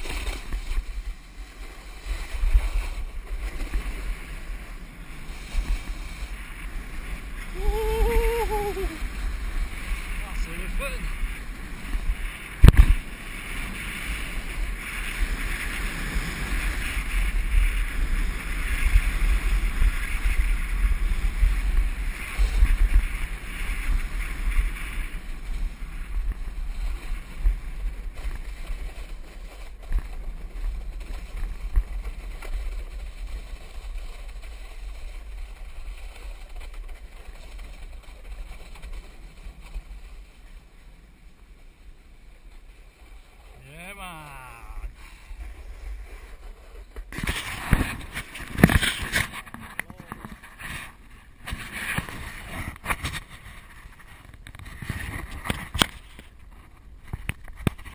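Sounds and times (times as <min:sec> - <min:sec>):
snowboard scraping over snow: 0:00.0 - 0:57.9
wind rumbling on microphone: 0:00.0 - 0:57.9.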